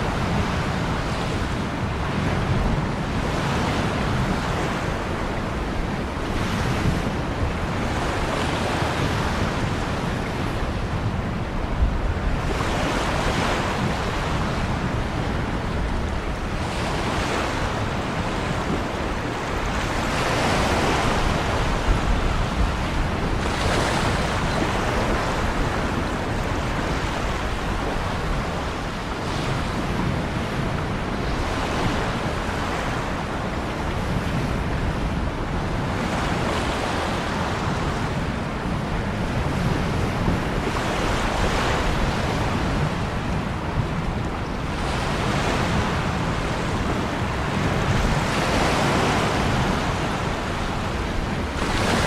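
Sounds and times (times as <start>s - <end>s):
ocean waves breaking: 0.0s - 52.0s.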